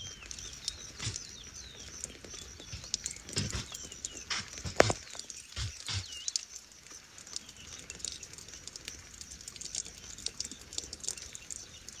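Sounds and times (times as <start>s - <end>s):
squirrel lapping water: 0.0s - 12.0s.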